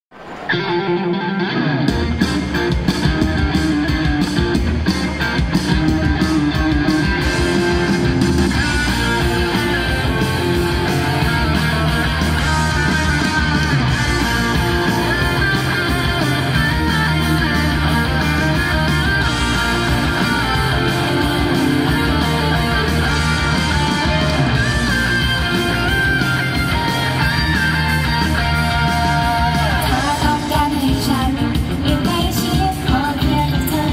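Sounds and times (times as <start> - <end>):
drums: 0.1 - 33.9
strummed electric guitar: 0.2 - 33.9
bass guitar: 0.5 - 33.9.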